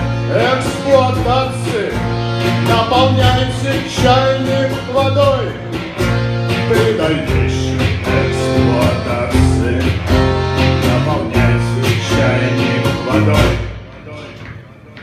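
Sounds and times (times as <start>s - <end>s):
guitar-led instrumental music: 0.0s - 14.5s.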